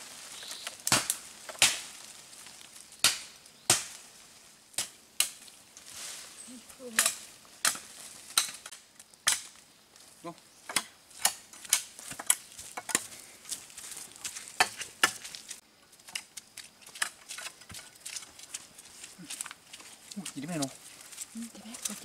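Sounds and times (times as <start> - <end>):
footsteps on dry twigs and leaves: 0.0 - 22.0.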